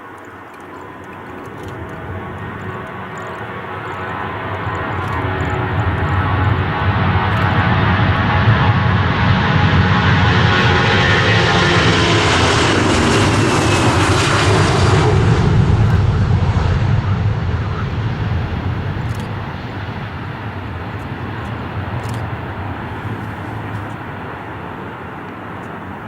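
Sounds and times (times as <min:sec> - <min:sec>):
airliner engine noise passing: 0:00.0 - 0:26.0.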